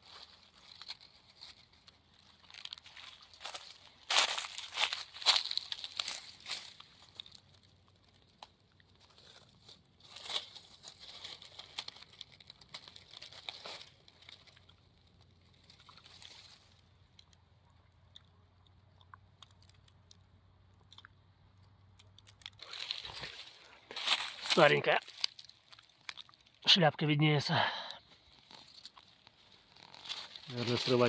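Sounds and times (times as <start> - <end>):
dry leaves rustling and crunching: 0.0 - 17.3, 22.2 - 31.0.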